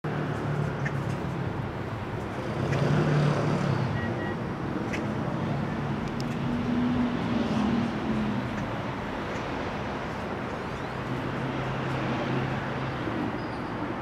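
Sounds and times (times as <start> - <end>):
road noise: 0.0 - 14.0
vehicle engine humming: 0.1 - 14.0.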